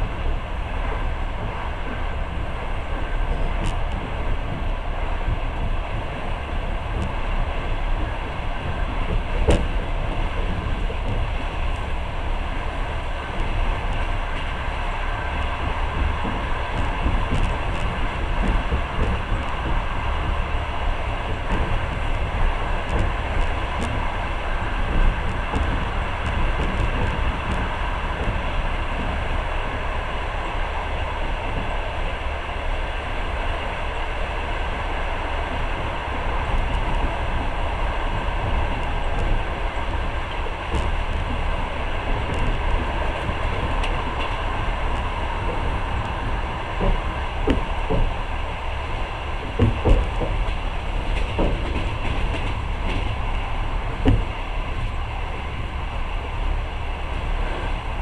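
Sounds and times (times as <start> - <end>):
train carriage rumble: 0.0 - 58.0.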